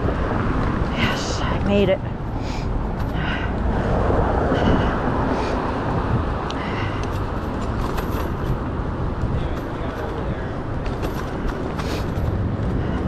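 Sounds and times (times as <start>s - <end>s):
wind rushing: 0.0s - 10.8s
city traffic: 0.0s - 13.0s.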